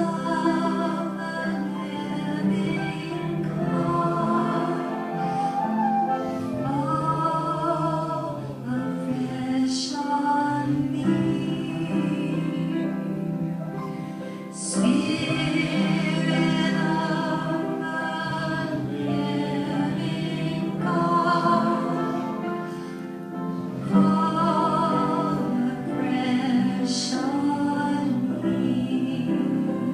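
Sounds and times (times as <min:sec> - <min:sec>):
gospel worship singing: 0:00.0 - 0:29.9.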